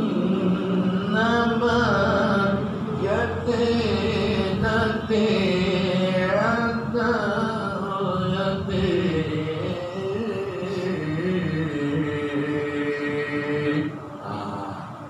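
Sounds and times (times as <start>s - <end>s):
woman reciting melodically: 0.0s - 15.0s.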